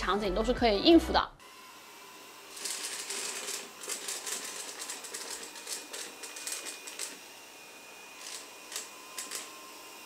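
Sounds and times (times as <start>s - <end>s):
faint motor whine: 1.4s - 10.0s.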